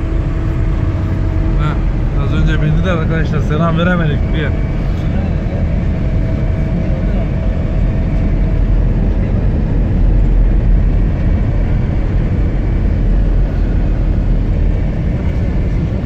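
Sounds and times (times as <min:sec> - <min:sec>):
engine and tyre rumble: 0:00.0 - 0:16.0.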